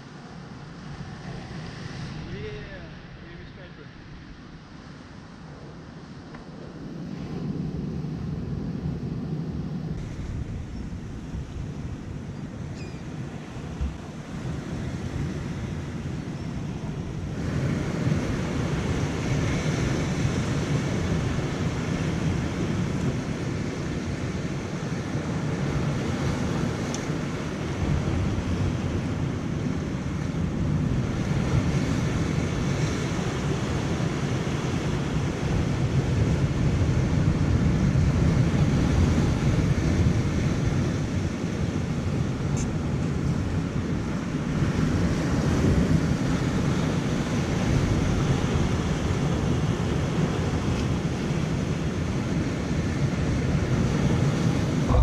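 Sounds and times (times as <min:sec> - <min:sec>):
wind on microphone: 0:00.0 - 0:55.0
rough surf on rocky shore: 0:09.9 - 0:55.0.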